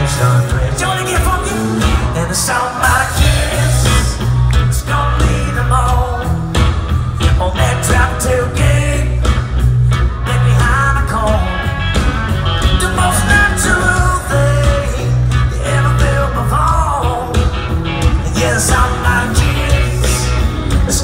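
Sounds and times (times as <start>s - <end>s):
person singing: 0.0s - 6.6s, 7.2s - 9.4s, 12.6s - 21.0s
live rock band playing: 0.0s - 21.0s.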